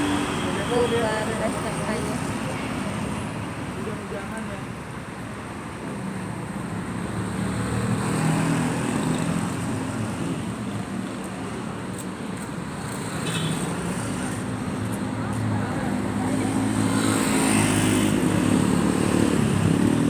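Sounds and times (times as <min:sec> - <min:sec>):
traffic on wet street: 0:00.0 - 0:20.0.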